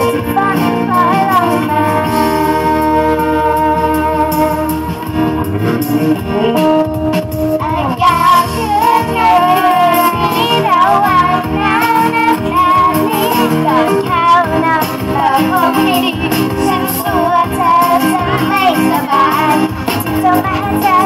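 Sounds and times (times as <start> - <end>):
girls singing pop song: 0.0 - 4.9, 7.6 - 21.0
amplified backing music: 0.0 - 21.0.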